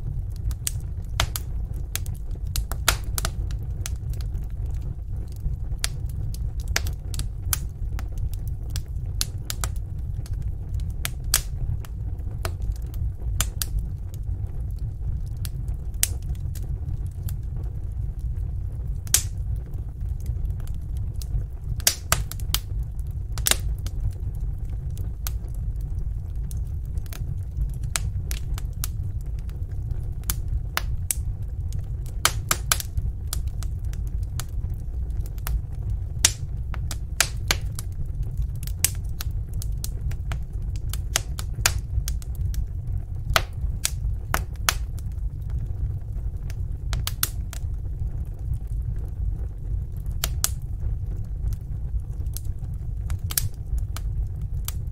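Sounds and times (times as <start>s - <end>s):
loud fire snaps: 0.0s - 54.9s
wood fire crackling: 0.0s - 54.9s.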